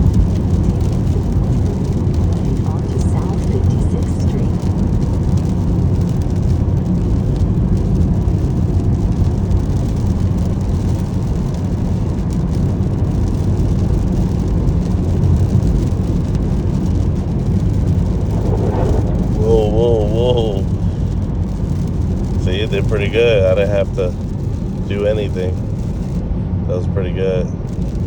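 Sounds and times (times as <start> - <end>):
road and tyre noise in car: 0.0 - 28.0.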